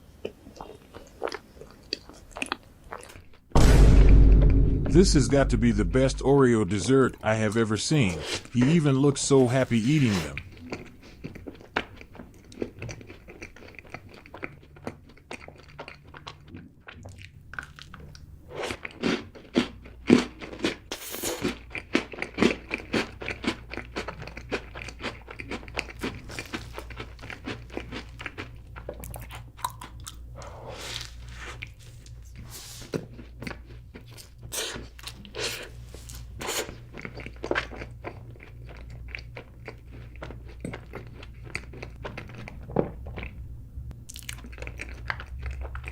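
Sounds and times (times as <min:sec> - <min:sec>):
wet chewing: 0:00.2 - 0:03.4, 0:09.8 - 0:43.4, 0:44.1 - 0:45.9.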